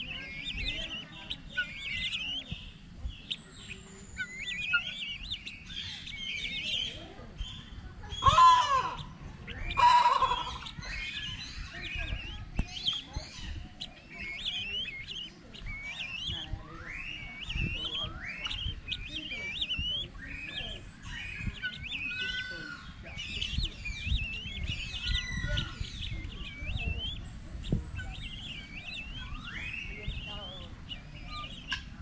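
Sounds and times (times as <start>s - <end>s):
guineafowl chirping calls: 0.0s - 32.0s
rising whistled calls: 0.0s - 32.0s.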